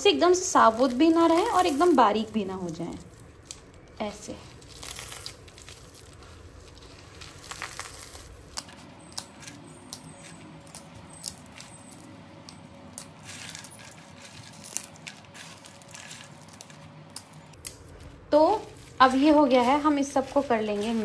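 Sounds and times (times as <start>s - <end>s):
roasted nuts crackling: 0.0s - 21.0s.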